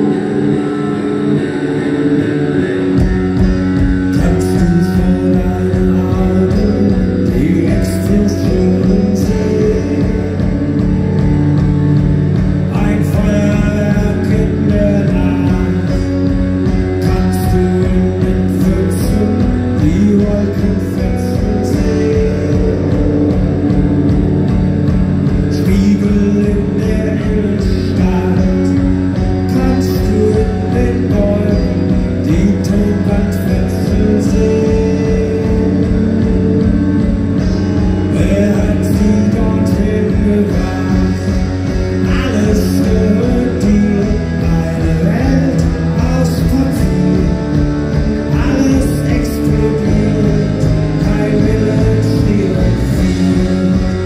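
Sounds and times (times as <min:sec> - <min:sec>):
bass guitar: 0:00.0 - 0:54.0
electric guitars: 0:00.0 - 0:54.0
steady drum beat: 0:00.0 - 0:54.0.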